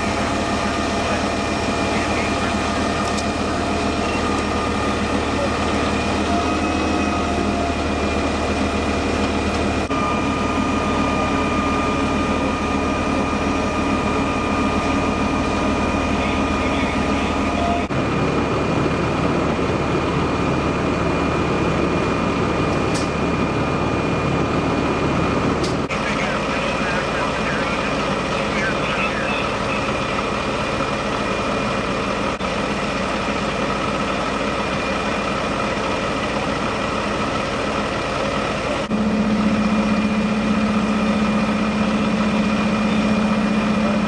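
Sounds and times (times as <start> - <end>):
diesel engine droning at high idle: 0.0 - 44.0
steady high whine: 0.0 - 44.0.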